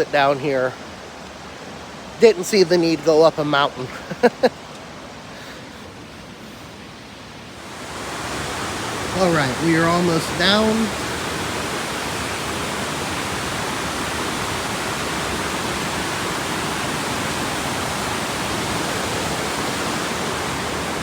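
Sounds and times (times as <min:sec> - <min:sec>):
rushing water roar: 0:00.0 - 0:21.0.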